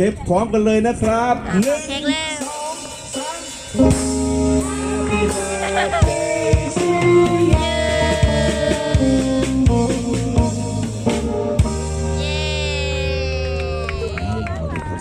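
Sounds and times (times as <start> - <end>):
drum kit beat: 1.5 - 14.2
guitar: 1.5 - 15.0.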